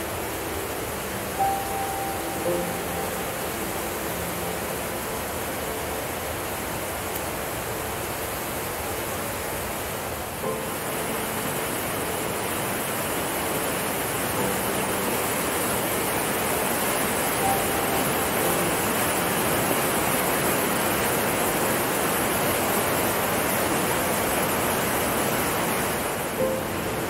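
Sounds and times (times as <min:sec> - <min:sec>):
mountain stream rushing over boulders: 0:00.0 - 0:27.0.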